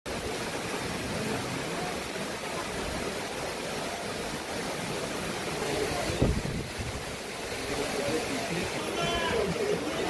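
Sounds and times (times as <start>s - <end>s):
water rushing: 0.1s - 10.0s.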